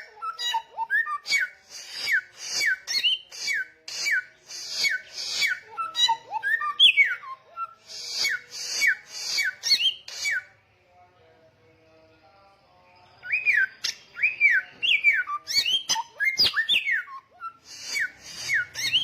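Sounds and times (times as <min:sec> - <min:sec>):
songbird singing raspy whistles: 0:00.0 - 0:10.6, 0:13.2 - 0:19.0.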